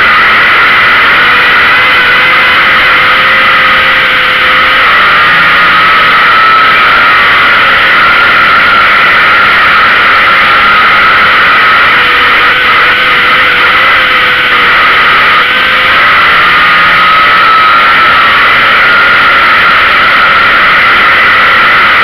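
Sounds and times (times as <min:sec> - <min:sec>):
race car engine running hard: 0:00.0 - 0:22.0.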